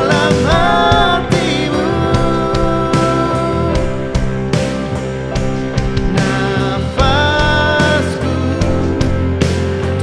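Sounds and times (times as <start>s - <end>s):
band playing instrumental: 0.0s - 10.0s.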